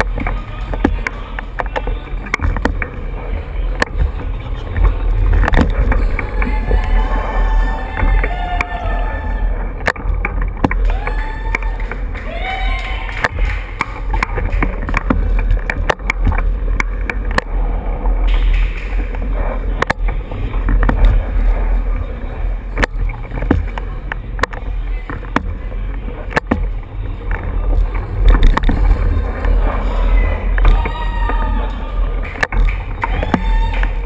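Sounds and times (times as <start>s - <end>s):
heavy riding rumble: 0.0s - 34.0s.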